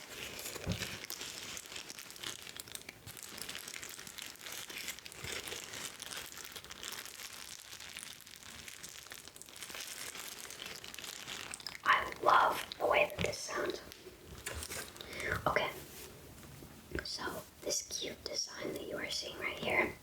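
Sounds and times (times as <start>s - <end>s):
plastic wrapping crinkling: 0.0s - 18.4s.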